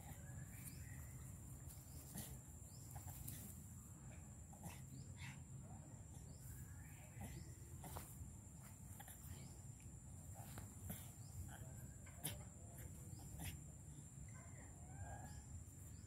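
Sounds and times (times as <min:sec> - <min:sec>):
faint insect drone: 0:00.0 - 0:16.0.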